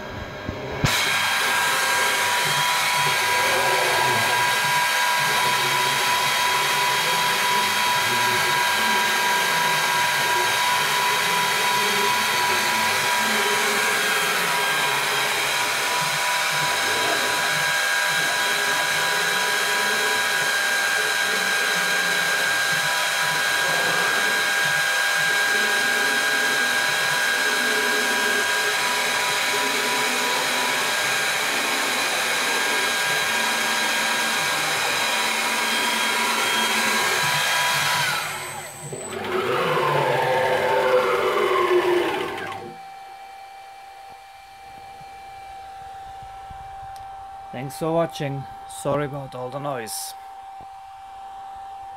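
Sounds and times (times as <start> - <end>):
spindle high whine: 0.0 - 51.9
stepper motor tones shifting pitch: 0.0 - 51.9.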